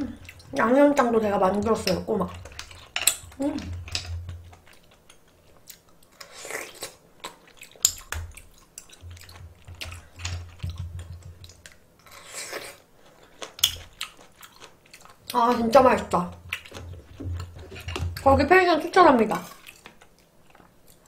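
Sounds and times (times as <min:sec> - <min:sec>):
chewing: 0:00.0 - 0:18.3, 0:19.4 - 0:21.0.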